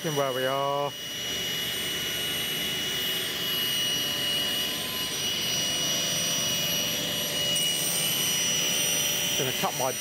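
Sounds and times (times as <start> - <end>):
table saw running: 0.0 - 10.0.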